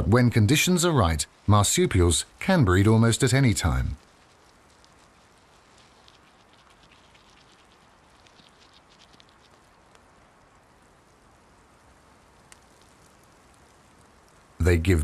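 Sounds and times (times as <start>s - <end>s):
faint outdoor hiss: 0.0s - 15.0s
soft ticks and patters: 0.0s - 15.0s.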